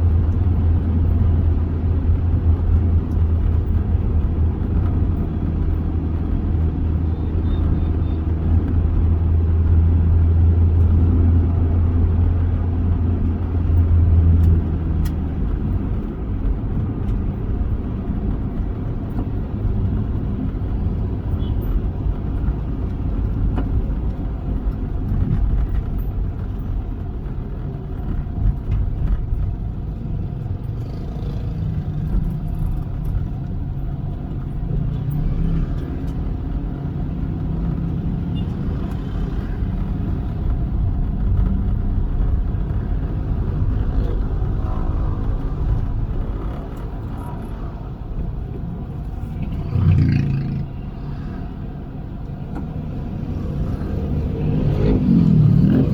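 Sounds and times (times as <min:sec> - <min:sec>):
car engine and road noise drone: 0:00.0 - 0:55.9.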